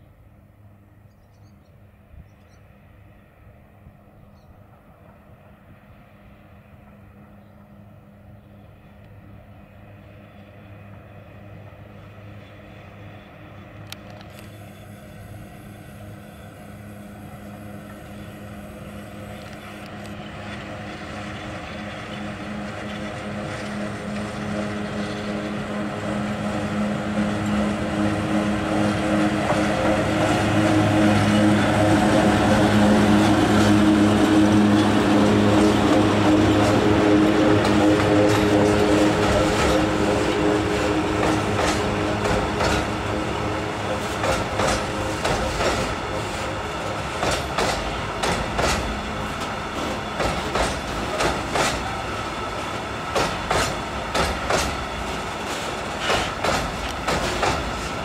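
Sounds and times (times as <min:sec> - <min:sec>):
electric locomotive hum: 0:00.0 - 0:58.0
rolling train noise: 0:00.0 - 0:58.0.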